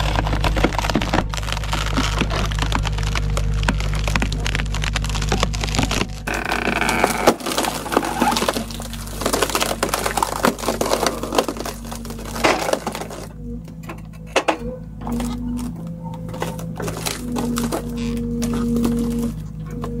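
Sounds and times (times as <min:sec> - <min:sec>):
wood cracking and splintering: 0:00.0 - 0:14.4, 0:15.0 - 0:20.0
steady low hum: 0:00.0 - 0:20.0.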